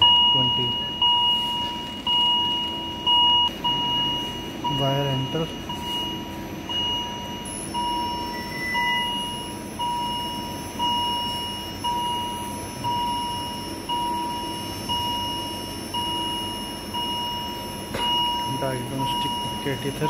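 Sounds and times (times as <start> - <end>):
long electronic beeps: 0.0 - 20.0
low background hum: 0.0 - 20.0.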